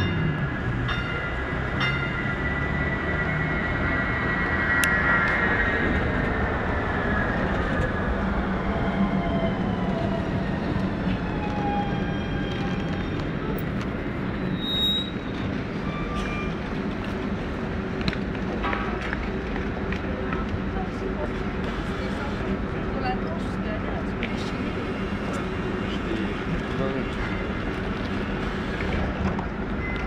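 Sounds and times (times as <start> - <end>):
bus rumbling: 0.0 - 30.0.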